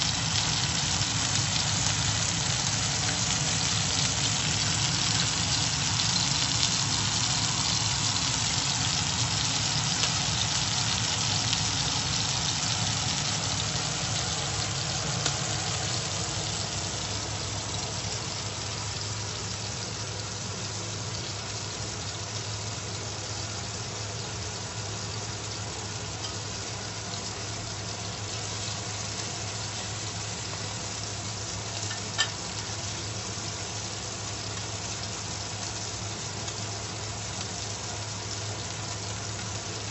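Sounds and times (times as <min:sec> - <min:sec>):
steak sizzling in frying pan: 0:00.0 - 0:39.9.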